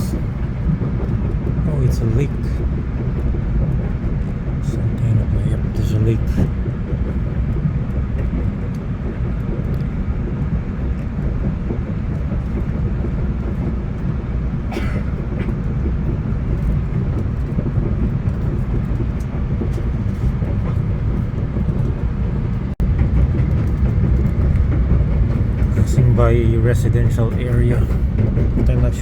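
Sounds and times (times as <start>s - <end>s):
train rumble from inside coach: 0.0s - 29.0s.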